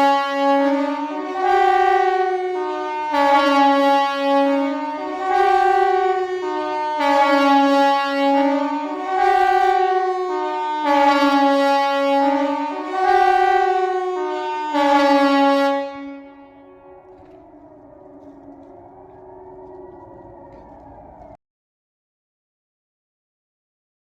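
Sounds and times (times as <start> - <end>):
siren stepped tone: 0.0 - 21.4.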